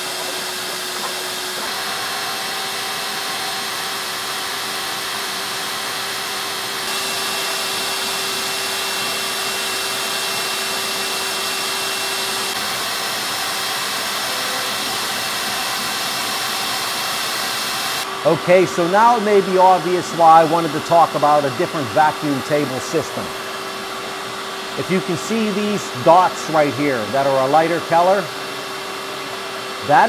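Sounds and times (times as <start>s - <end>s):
vacuum motor whooshing hum: 0.0s - 30.0s.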